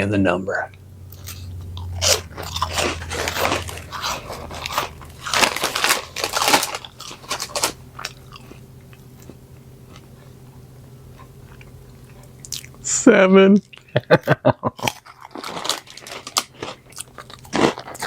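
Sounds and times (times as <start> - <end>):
crunchy snack being chewed: 1.1 - 12.8, 14.8 - 18.0.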